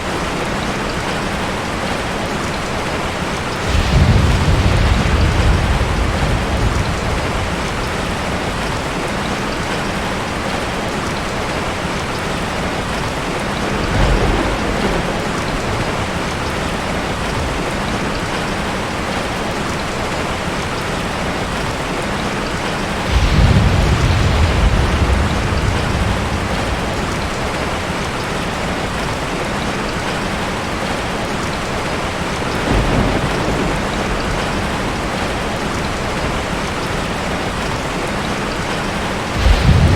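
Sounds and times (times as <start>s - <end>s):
steady rain falling: 0.0s - 39.9s
thunder rumbling: 0.0s - 39.9s.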